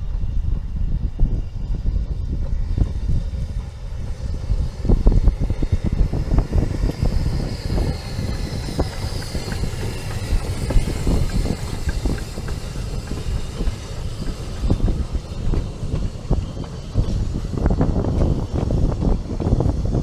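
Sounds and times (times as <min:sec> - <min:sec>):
train rumble: 0:00.0 - 0:20.0
wheels clicking over rail joints: 0:02.4 - 0:20.0.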